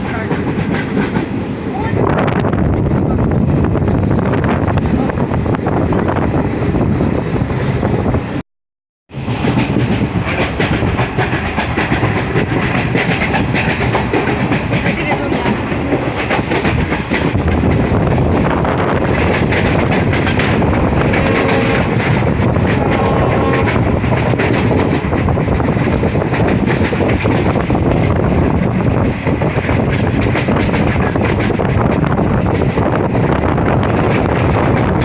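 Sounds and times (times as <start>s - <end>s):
train wheels rumbling on track: 0.0s - 8.4s, 9.1s - 35.0s.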